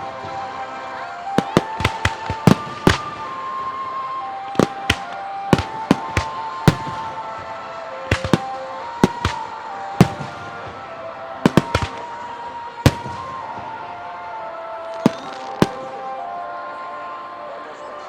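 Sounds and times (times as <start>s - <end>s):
fireworks bangs: 0.0s - 17.0s
music with long held notes: 0.0s - 18.0s.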